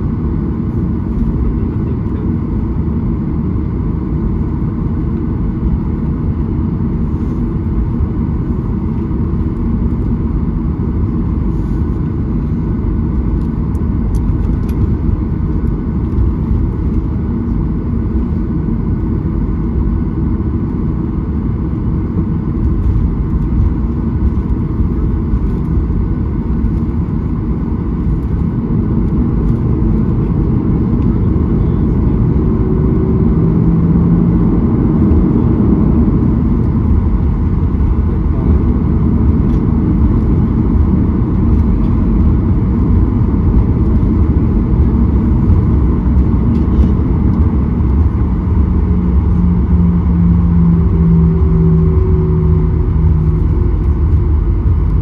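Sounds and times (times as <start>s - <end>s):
airplane engine low rumble: 0.0s - 55.0s
midrange cabin hum: 0.0s - 55.0s.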